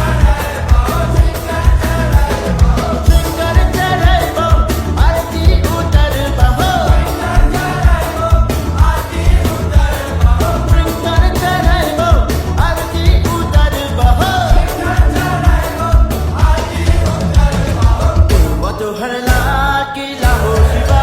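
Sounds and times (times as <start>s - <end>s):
devotional song vocals: 0.0s - 21.0s
electronic bass beat: 0.0s - 21.0s.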